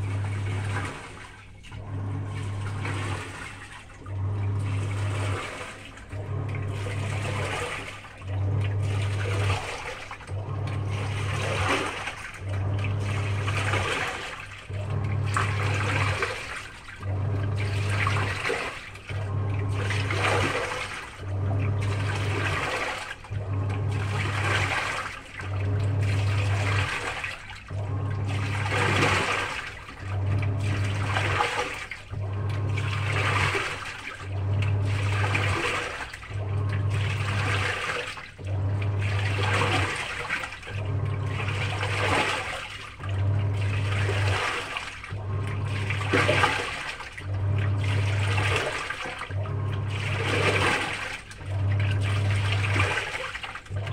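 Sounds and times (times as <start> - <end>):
washing machine motor humming: 0.0 - 53.9
water sloshing through clothes: 0.0 - 53.9.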